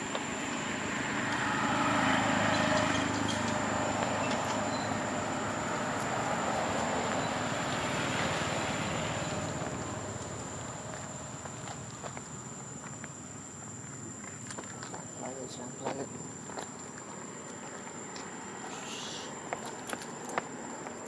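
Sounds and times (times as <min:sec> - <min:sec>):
vehicle passing on road: 0:00.0 - 0:21.0.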